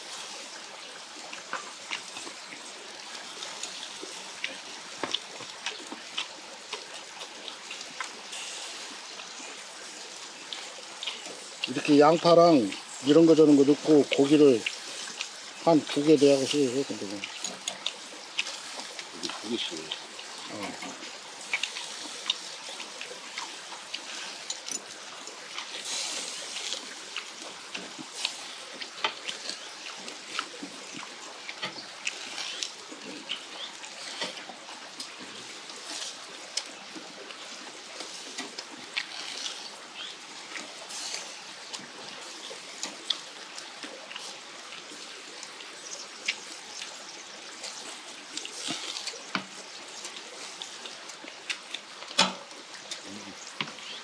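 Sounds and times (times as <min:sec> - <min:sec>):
meat sizzling on a grill: 0:00.0 - 0:54.0
people chewing: 0:00.0 - 0:54.0.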